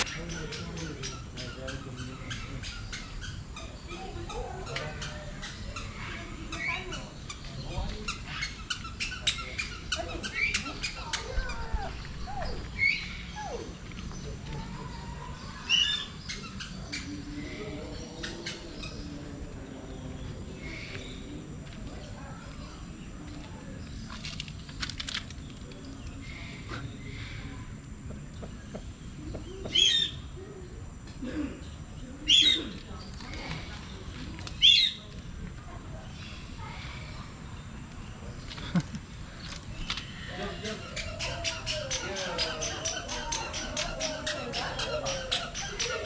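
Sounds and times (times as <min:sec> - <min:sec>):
loud sharp bird calls: 0:00.0 - 0:22.2, 0:26.0 - 0:30.5, 0:31.6 - 0:35.1, 0:36.1 - 0:46.0.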